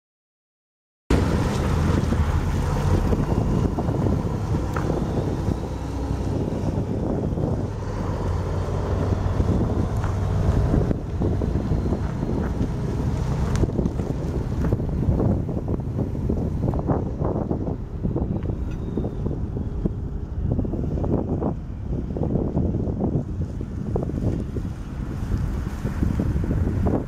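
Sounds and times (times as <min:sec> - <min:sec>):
diesel truck engine rumbling: 0:01.1 - 0:27.0
wind buffeting microphone: 0:01.1 - 0:27.0.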